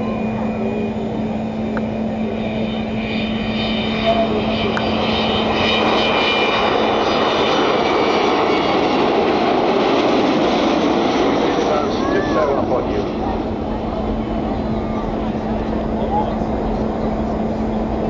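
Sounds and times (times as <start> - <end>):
jet rumble: 0.0 - 18.0.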